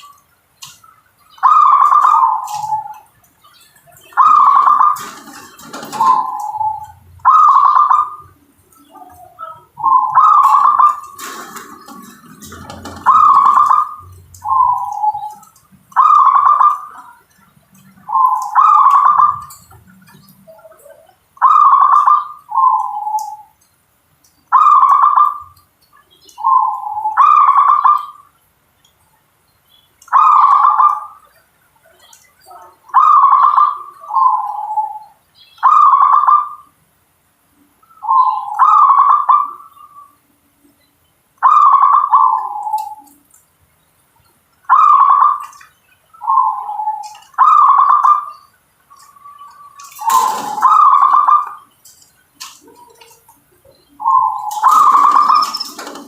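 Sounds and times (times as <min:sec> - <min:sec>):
dove cooing: 0:00.0 - 0:23.6, 0:24.5 - 0:28.3, 0:30.1 - 0:36.7, 0:37.8 - 0:40.7, 0:41.4 - 0:43.3, 0:44.7 - 0:56.0.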